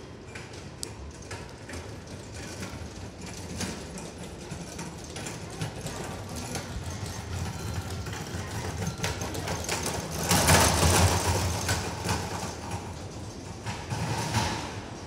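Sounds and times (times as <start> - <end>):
suitcase wheels rattling on tiles: 0.1 - 15.0.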